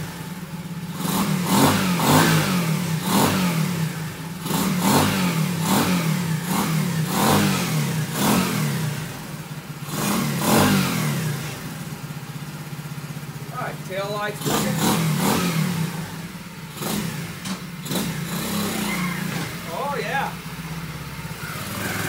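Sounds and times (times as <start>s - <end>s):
minibike engine revving: 0.0s - 22.0s.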